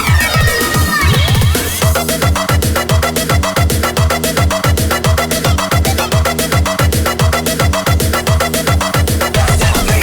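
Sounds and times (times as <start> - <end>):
electronic dance music: 0.0 - 10.0
deep bass kick drum: 1.3 - 10.0.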